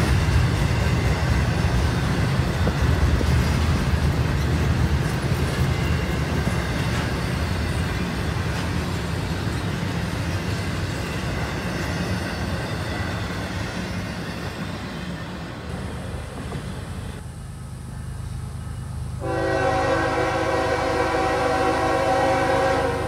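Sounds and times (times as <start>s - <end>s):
train wheels rumbling and clacking: 0.0s - 23.0s.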